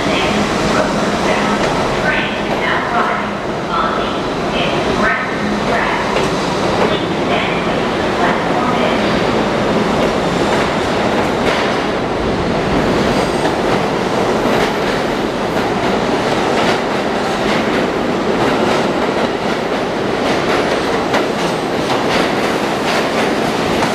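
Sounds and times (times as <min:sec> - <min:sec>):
train rumbling on tracks: 0:00.0 - 0:23.9.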